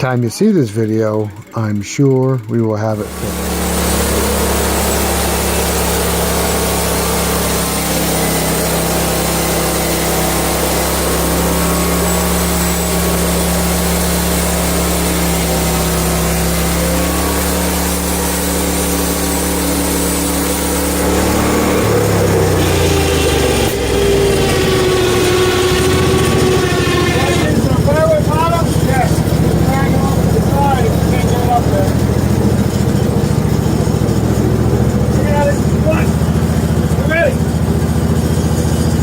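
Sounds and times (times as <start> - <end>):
small gasoline engine running: 0.0 - 39.0.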